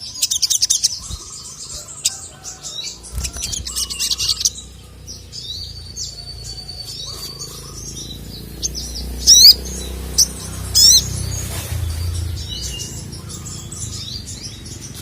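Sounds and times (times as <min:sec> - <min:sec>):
rapid bird chirps: 0:00.0 - 0:15.0.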